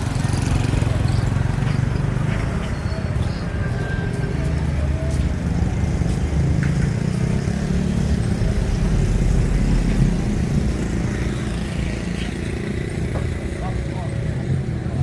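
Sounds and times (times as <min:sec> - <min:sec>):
car and motorbike engines rumbling: 0:00.0 - 0:15.0.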